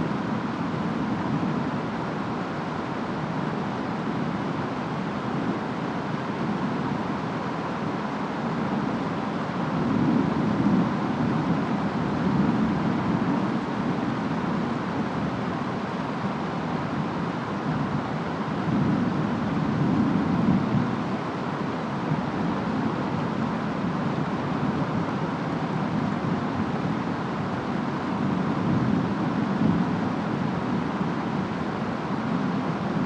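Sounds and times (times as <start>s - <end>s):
rainstorm: 0.0s - 33.0s
wind: 0.0s - 33.0s.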